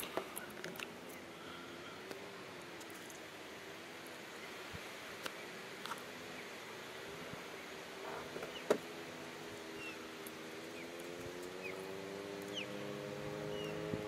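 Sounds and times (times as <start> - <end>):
distant small engines droning: 0.0 - 14.0.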